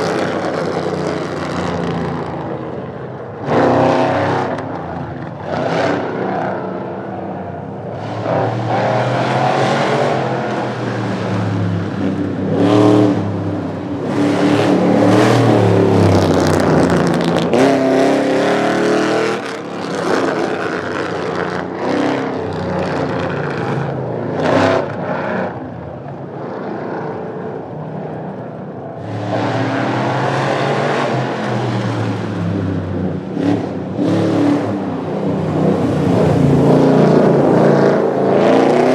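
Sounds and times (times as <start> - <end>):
drag racing car engines accelerating: 0.0 - 38.9.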